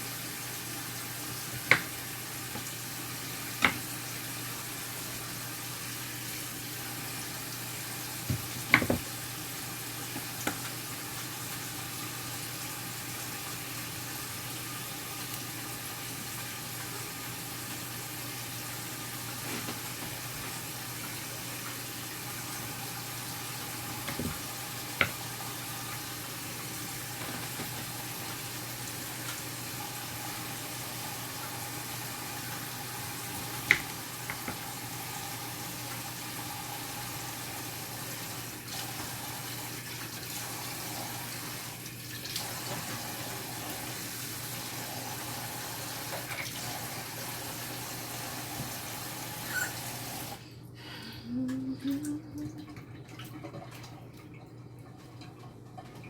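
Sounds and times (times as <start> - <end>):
tap water running: 0.0 - 50.4, 51.3 - 56.0.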